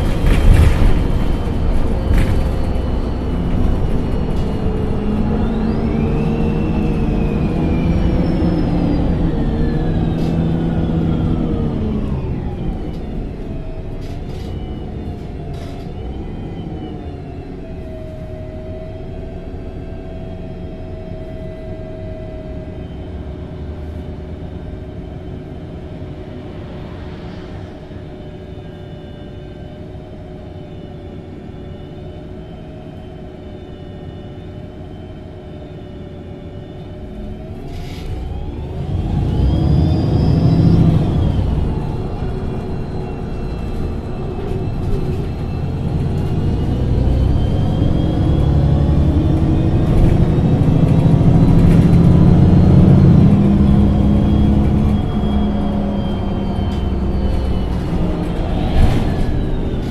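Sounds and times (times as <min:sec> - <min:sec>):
bus engine idling and accelerating: 0:00.0 - 0:59.9.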